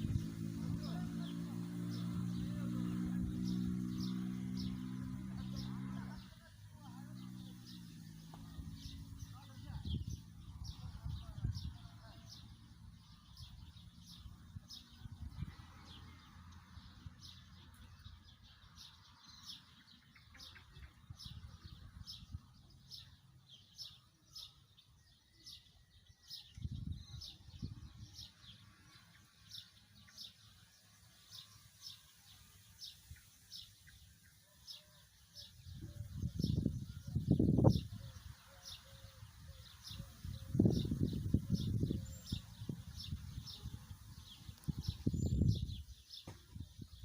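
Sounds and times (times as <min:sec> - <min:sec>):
small bird chirping: 0:00.0 - 0:47.0.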